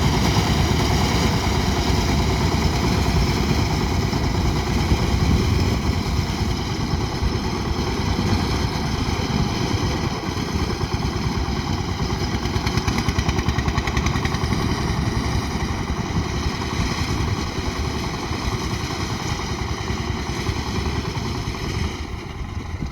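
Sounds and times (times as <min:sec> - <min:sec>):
harvester engine running: 0:00.0 - 0:22.9.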